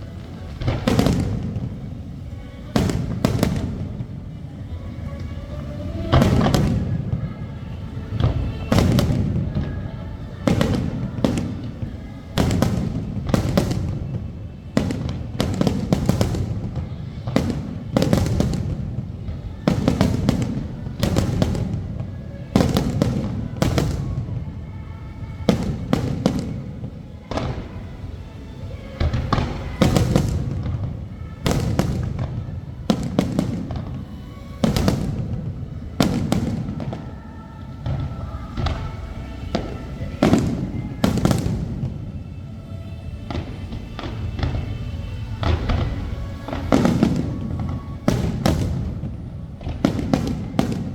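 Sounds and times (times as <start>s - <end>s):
fireworks booming and crackling: 0.0s - 50.9s
music: 0.0s - 50.9s.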